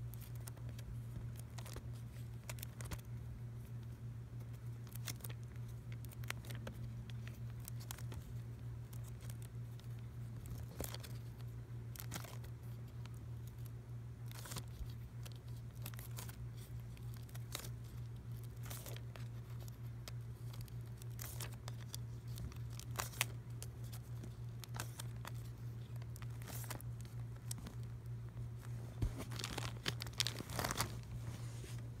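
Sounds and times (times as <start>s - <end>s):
plastic record sleeves crinkling: 0.0s - 32.0s
steady low hum: 0.0s - 32.0s.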